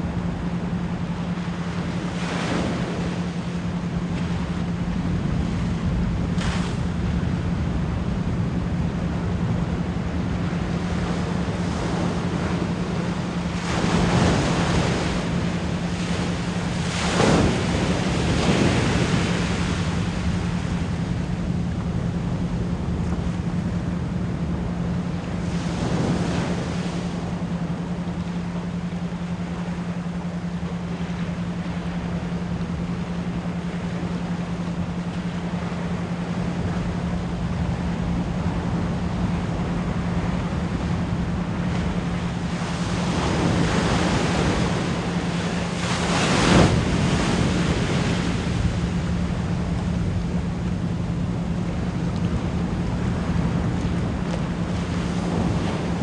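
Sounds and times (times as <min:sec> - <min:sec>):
ocean surf washing: 0:00.0 - 0:56.0
steady low pure tone: 0:00.0 - 0:56.0
waves breaking: 0:00.0 - 0:56.0.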